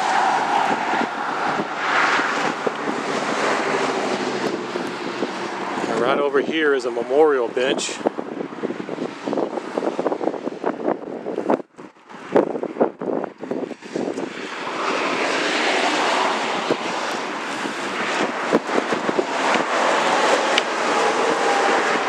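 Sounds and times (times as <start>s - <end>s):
rushing vehicle noise: 0.0s - 22.0s.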